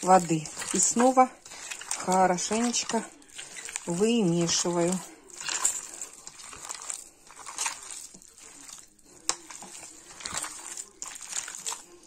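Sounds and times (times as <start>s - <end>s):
hands kneading wet mince: 0.0s - 12.0s.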